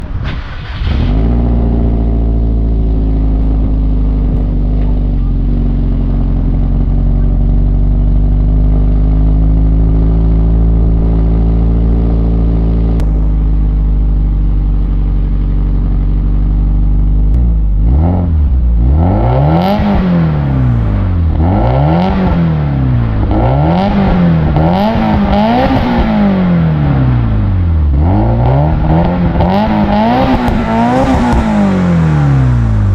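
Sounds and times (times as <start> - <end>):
car engine idling: 0.0 - 32.9
car engine revving: 0.0 - 32.9.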